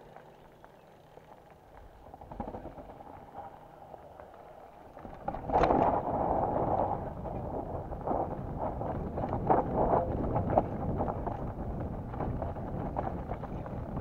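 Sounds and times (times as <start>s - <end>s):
bike rattling: 0.0s - 14.0s
bike tyres crunching over dirt: 0.0s - 14.0s.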